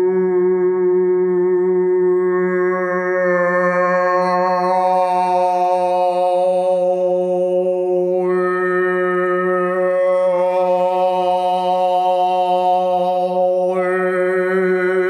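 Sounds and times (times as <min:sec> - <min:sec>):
man throat-singing drone: 0:00.0 - 0:15.0.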